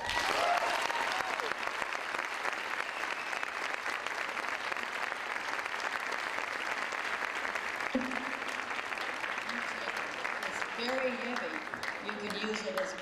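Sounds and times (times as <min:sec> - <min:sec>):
applause: 0:00.0 - 0:13.0.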